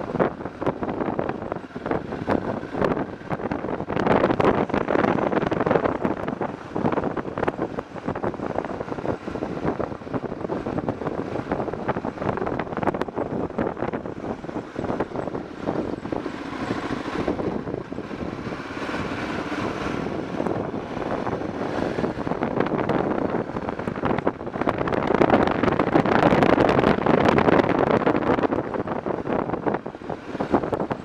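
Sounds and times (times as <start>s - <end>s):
motorcycle engine running: 0.0s - 31.0s
wind rushing over microphone: 0.0s - 31.0s.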